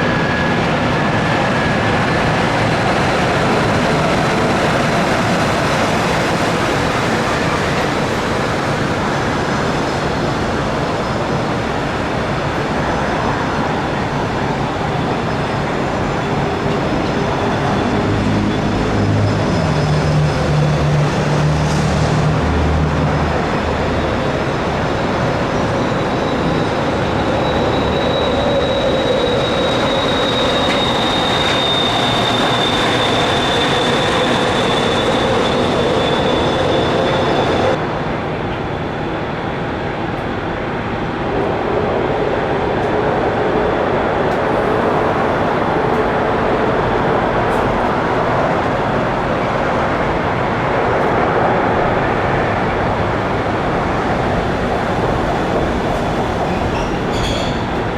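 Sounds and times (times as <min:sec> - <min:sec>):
jet engine roar with fan whine: 0:00.0 - 0:57.9.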